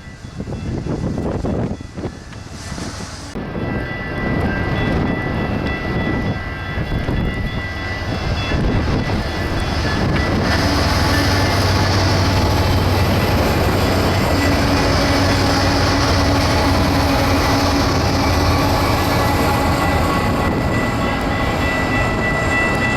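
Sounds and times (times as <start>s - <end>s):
freight train rumbling past: 0.0s - 22.9s
locomotive engine drone: 3.2s - 22.9s.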